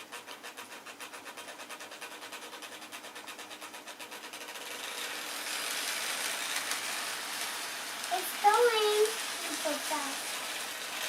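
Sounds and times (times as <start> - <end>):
toy train clicking on track: 0.0 - 11.0.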